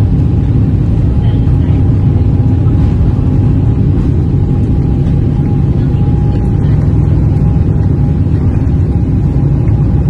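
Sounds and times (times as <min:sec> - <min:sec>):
airliner cabin engine rumble: 0:00.0 - 0:10.0
faint steady whine: 0:00.0 - 0:10.0.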